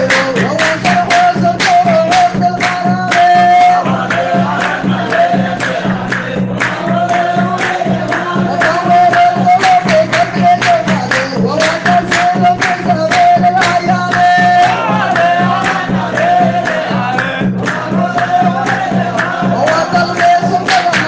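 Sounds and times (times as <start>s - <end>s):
devotional chanting: 0.0s - 21.0s
percussive beat: 0.0s - 21.0s.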